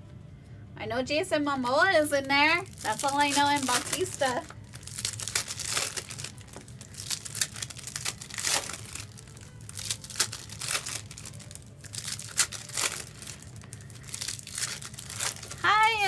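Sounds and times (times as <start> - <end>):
wrappers crinkling and tearing: 1.6 - 16.0
cards rustling: 2.6 - 16.0.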